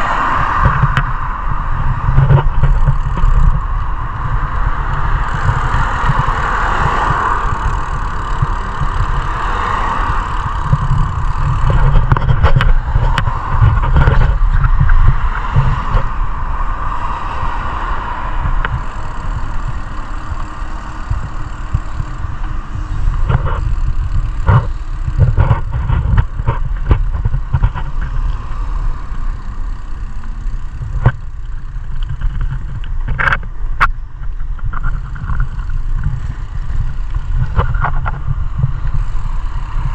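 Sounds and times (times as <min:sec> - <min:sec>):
road and traffic noise: 0:00.0 - 0:39.9
wind buffeting microphone: 0:00.0 - 0:39.9.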